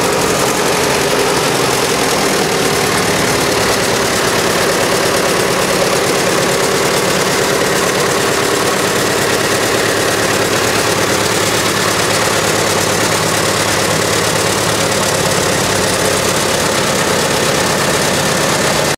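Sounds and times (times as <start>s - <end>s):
diesel engine idling: 0.0s - 18.9s.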